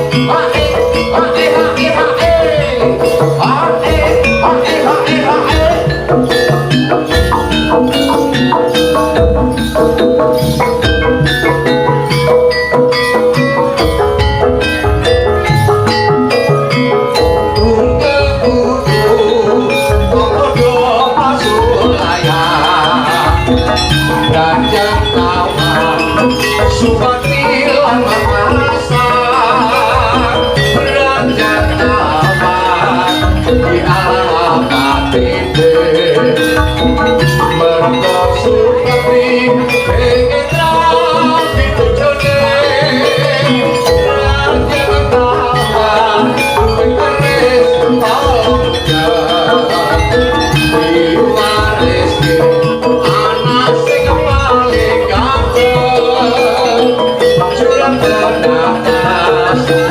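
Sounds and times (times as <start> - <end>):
drums keeping steady beat: 0.0 - 59.9
melodic instruments: 0.0 - 59.9
percussion ensemble music over speakers: 0.0 - 59.9.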